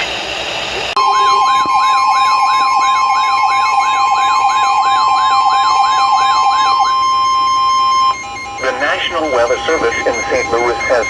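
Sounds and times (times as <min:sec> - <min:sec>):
emergency alert tone: 0:01.0 - 0:11.0.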